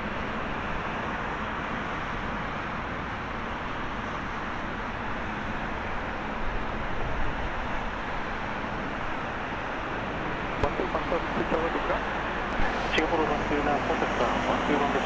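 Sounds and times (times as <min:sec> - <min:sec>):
jet engines idling: 0:00.1 - 0:15.0.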